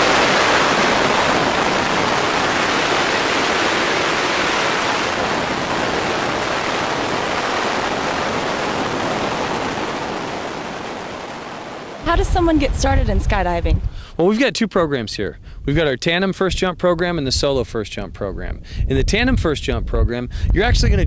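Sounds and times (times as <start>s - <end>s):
wind blasting over microphone: 0.0s - 14.2s, 15.0s - 21.0s.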